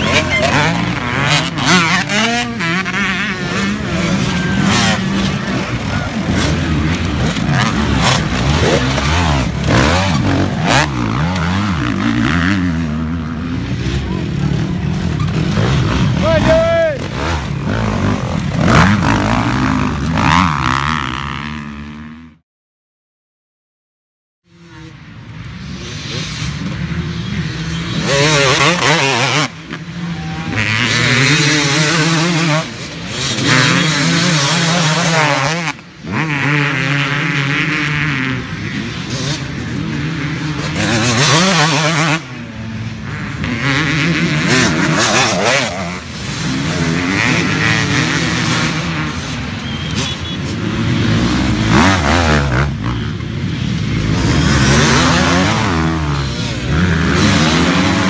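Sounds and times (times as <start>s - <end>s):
dirt bike engines revving: 0.0s - 22.4s, 24.5s - 58.0s.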